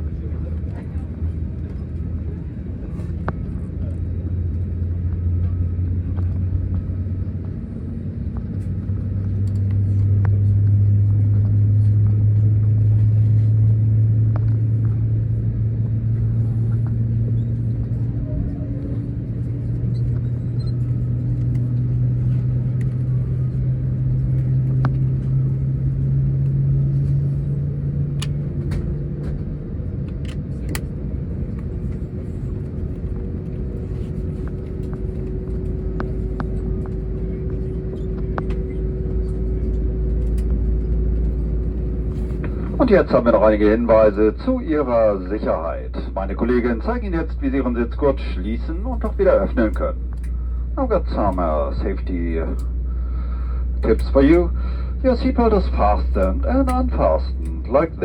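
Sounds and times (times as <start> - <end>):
aircraft cabin low rumble: 0.0 - 58.0
low hum rising in pitch: 0.0 - 58.0
steady higher hum: 0.0 - 58.0.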